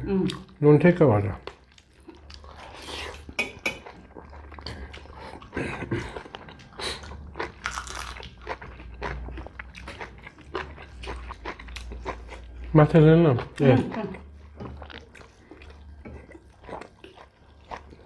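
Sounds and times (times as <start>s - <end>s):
chewing and lip-smacking: 1.4s - 12.7s, 13.4s - 18.0s.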